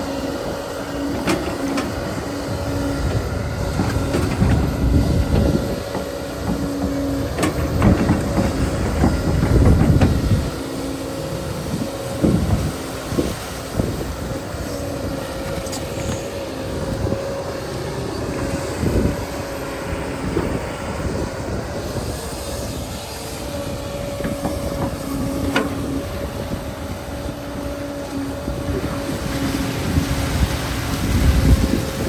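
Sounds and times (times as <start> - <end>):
excavator engine rumbling: 0.0 - 32.0.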